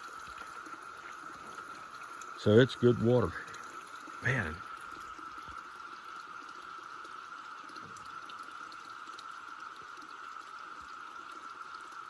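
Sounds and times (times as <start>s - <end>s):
water pouring from a pipe: 0.0s - 12.0s.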